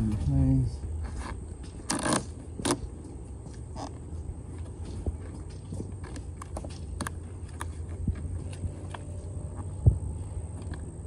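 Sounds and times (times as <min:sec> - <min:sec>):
steady low hum: 0:00.0 - 0:11.0
plastic visor clicking and scraping: 0:01.0 - 0:11.0.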